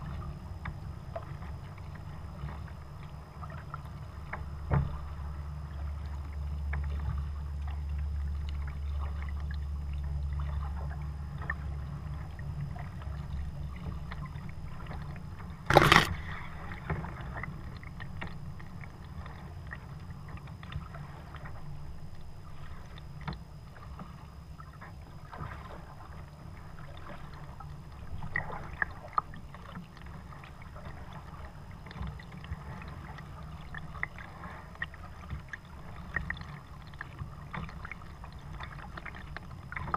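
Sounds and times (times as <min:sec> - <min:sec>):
paddle drips and splashes: 0:00.0 - 0:39.9.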